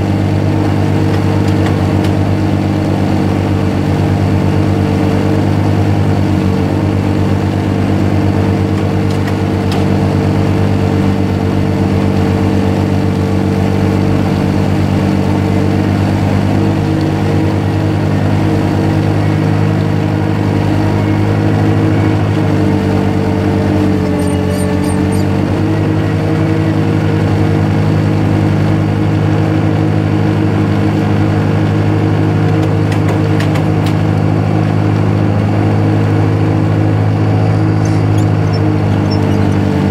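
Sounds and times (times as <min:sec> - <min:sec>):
ice resurfacer engine hum: 0:00.0 - 0:39.9.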